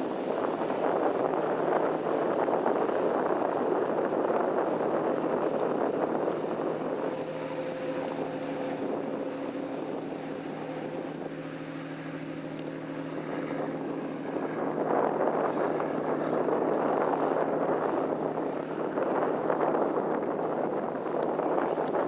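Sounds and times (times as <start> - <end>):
boat engine humming: 0.0 - 22.0
water rushing: 0.0 - 22.0
wind: 0.0 - 22.0.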